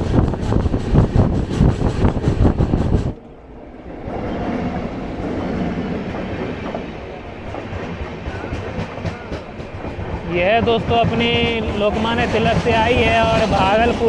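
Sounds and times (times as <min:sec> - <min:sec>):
train wheels clattering over rails: 0:00.0 - 0:03.2, 0:04.0 - 0:14.0
passing train rumble: 0:00.0 - 0:14.0
rushing wind: 0:00.0 - 0:14.0.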